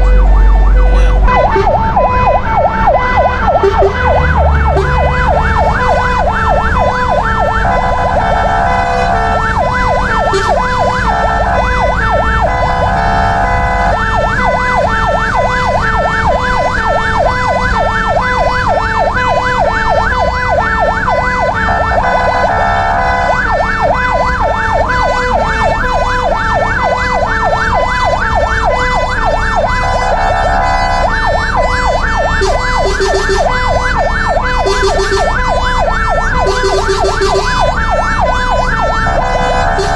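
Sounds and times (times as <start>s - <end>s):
fire engine siren yelp and warble: 0.0s - 39.9s
truck engine rumble: 0.0s - 39.9s.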